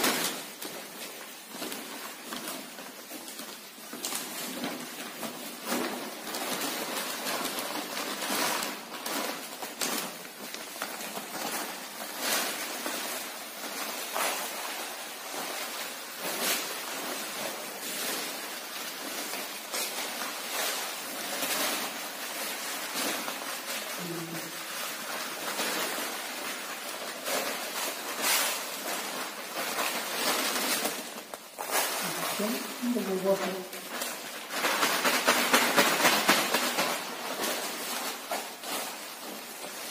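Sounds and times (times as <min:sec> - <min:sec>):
plastic bags crinkling: 0:00.0 - 0:39.9.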